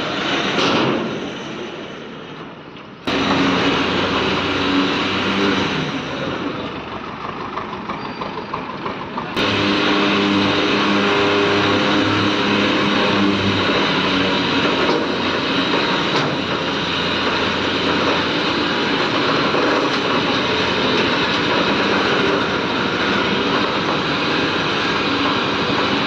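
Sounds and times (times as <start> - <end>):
vehicle engine humming: 3.1 - 26.0.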